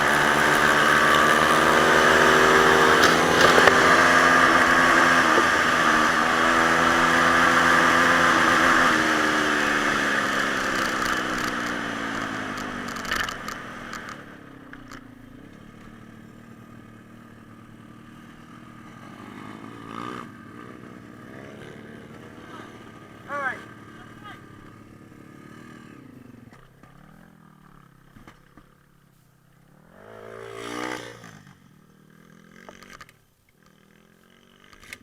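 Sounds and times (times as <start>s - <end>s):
pit bike engine running: 0.0s - 29.0s.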